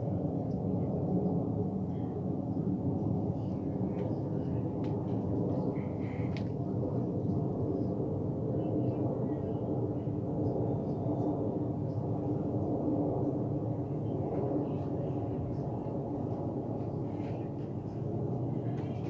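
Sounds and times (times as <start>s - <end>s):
jet airliner engine drone: 0.0s - 19.0s.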